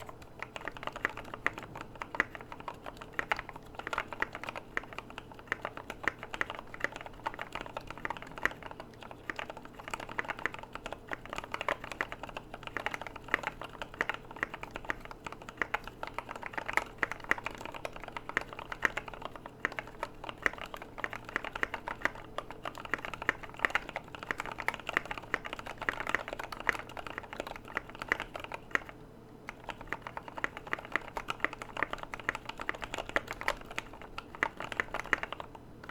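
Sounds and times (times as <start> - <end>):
mechanical keyboard typing: 0.0 - 35.9.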